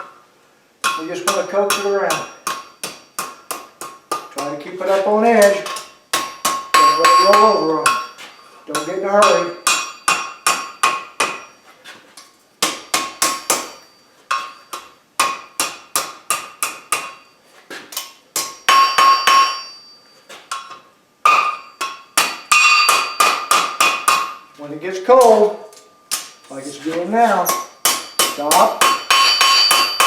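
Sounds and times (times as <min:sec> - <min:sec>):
hammer striking steel on anvil: 0:00.8 - 0:11.6, 0:12.6 - 0:17.4, 0:18.0 - 0:24.5, 0:25.1 - 0:30.0.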